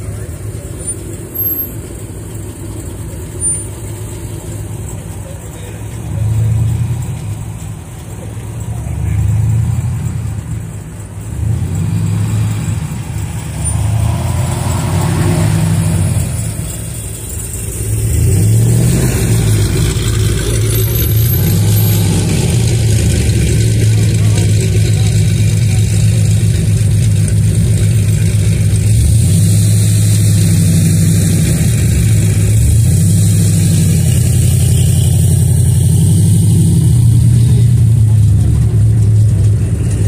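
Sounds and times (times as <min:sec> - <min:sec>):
car engines rumbling: 0:00.0 - 0:40.0.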